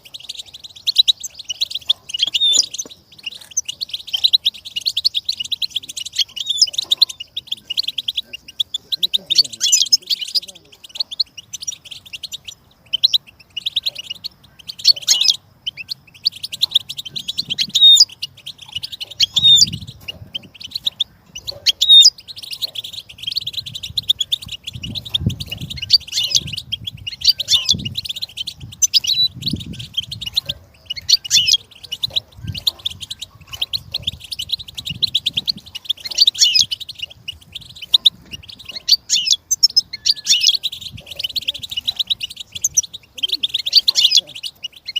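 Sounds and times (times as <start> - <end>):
bird twittering and trilling: 0.0 - 44.9.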